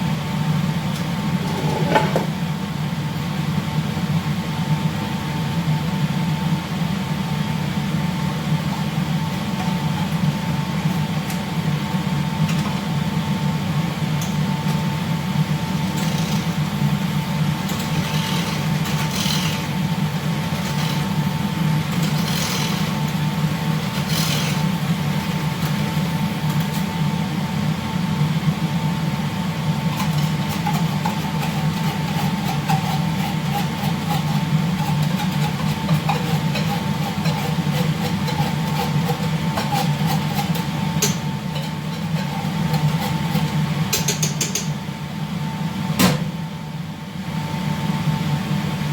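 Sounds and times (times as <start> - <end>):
thin steady whine: 0.0 - 48.9.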